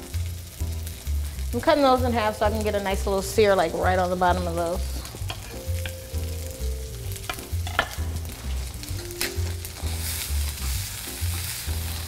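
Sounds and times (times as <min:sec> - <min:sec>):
greens sizzling in hot oil: 0:00.0 - 0:12.0.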